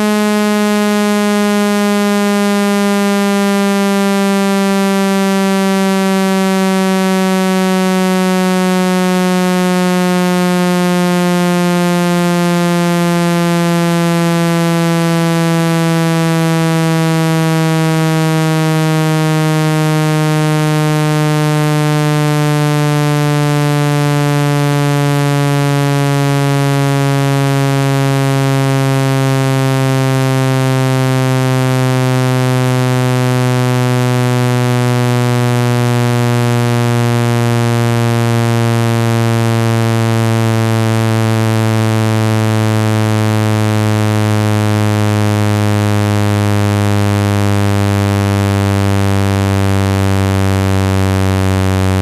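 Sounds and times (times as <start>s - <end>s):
synthesized buzzing tone gliding down: 0.0s - 52.0s.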